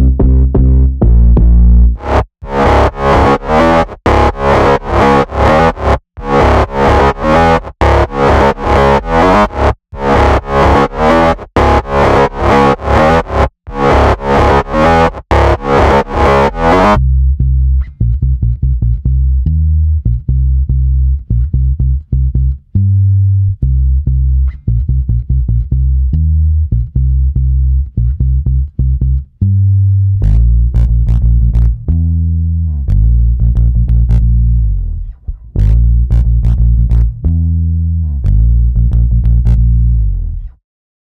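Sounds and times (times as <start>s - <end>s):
deep bass notes: 0.0s - 40.6s.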